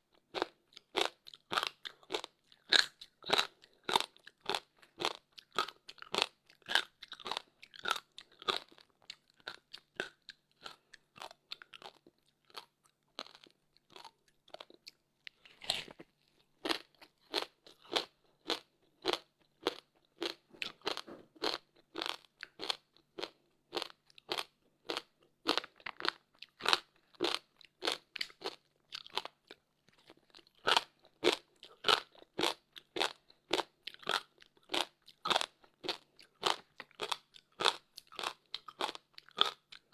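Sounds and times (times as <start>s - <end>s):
chewing crunchy frozen ice: 0.1s - 39.9s.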